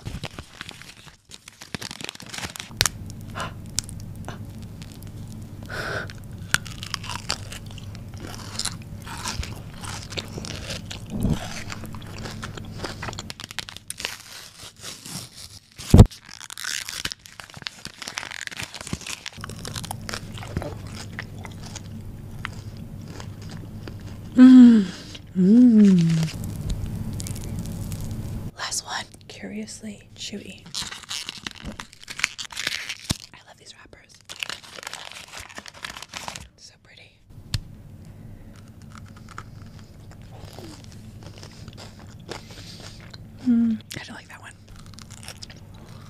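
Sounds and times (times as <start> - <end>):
chocolate bar crunching: 0.0 - 28.1, 30.6 - 36.5, 38.0 - 46.0.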